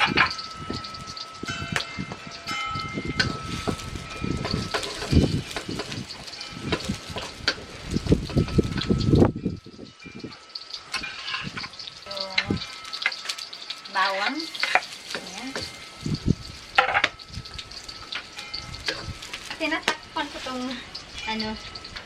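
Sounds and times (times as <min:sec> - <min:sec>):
onion sizzling in oil: 0:00.0 - 0:22.0.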